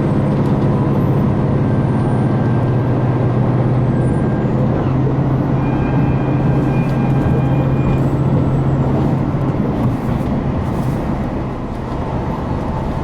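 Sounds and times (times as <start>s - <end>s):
diesel railcar engine drone: 0.0s - 13.0s
train rumbling running noise: 0.0s - 13.0s.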